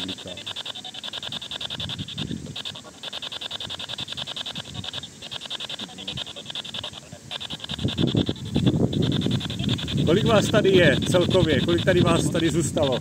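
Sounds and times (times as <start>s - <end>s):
radio static sweeping stations: 0.0s - 13.0s.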